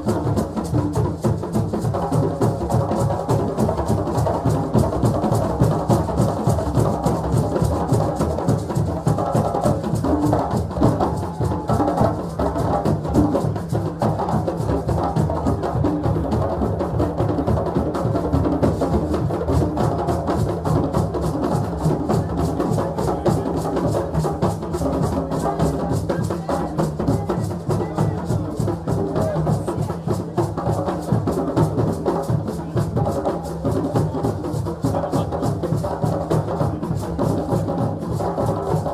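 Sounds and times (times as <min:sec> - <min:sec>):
hand drums and percussion: 0:00.0 - 0:38.9.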